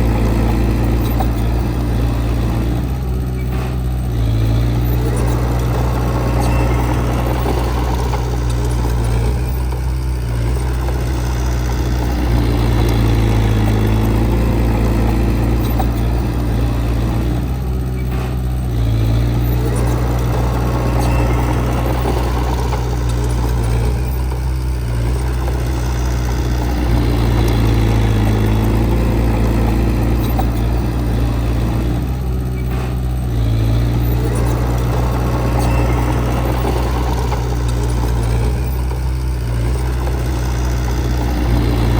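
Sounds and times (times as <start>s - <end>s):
heavy diesel engine working: 0.0s - 41.9s.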